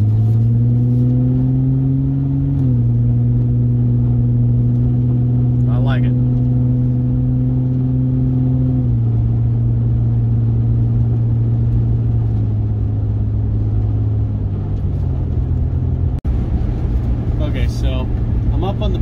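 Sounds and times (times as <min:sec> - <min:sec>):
engine exhaust deep growl: 0:00.0 - 0:19.0.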